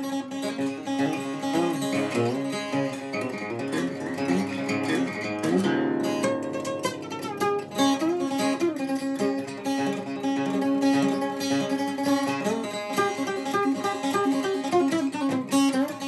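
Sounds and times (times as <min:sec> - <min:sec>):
acoustic guitar plucked notes: 0:00.0 - 0:16.0.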